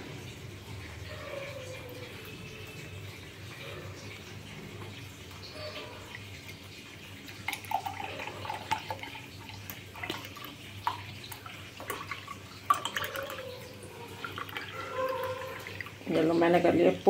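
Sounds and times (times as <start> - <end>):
milk pouring into glass mug: 1.8 - 16.6.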